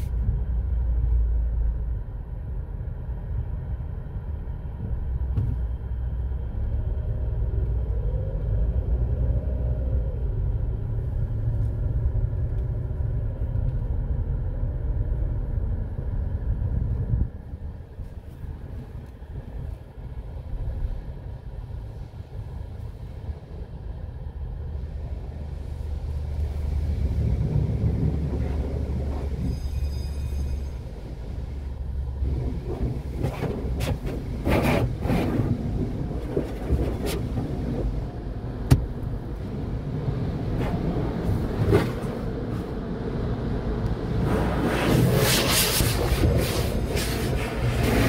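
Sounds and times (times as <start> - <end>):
low steady rumble: 0.0 - 48.0.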